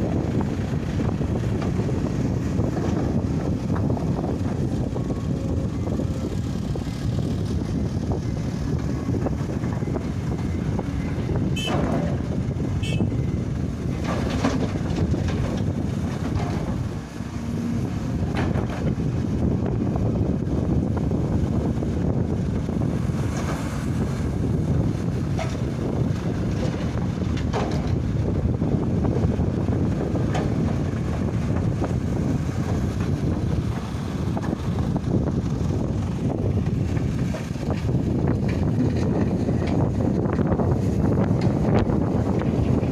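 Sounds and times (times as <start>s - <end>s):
diesel engines running: 0.0s - 42.9s
wind buffeting microphone: 0.0s - 42.9s.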